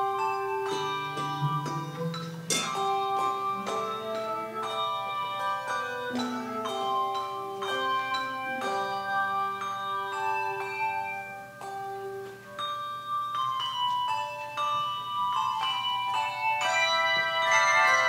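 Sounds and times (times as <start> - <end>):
handbell choir playing chords: 0.0 - 18.0.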